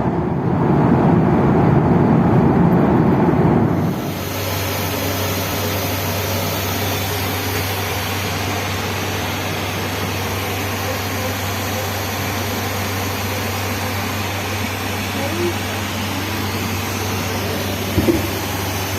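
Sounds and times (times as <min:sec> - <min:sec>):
airliner cabin engine rush: 0:00.0 - 0:18.9
constant low hum: 0:00.0 - 0:18.9.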